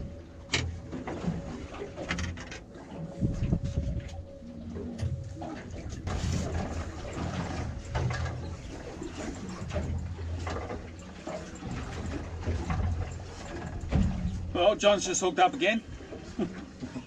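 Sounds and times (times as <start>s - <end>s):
wind rumble on microphone: 0.0s - 14.8s
water splashing against boat hull: 0.0s - 17.0s.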